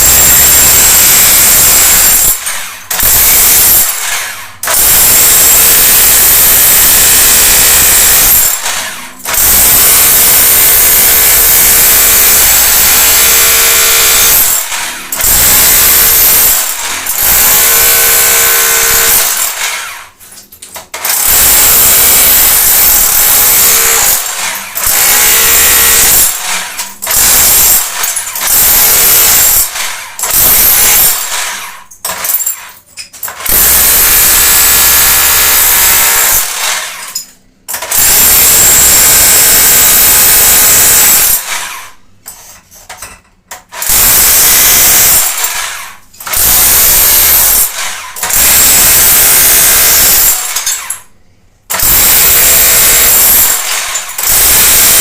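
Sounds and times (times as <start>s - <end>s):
power tool chipping tile: 0.0s - 51.1s, 51.7s - 55.0s.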